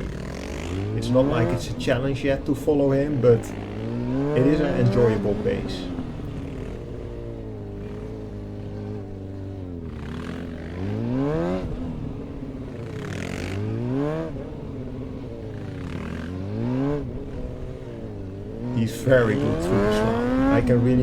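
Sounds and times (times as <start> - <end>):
motorcycle engine idling: 0.0 - 21.0
motorcycle engine revving: 0.0 - 21.0.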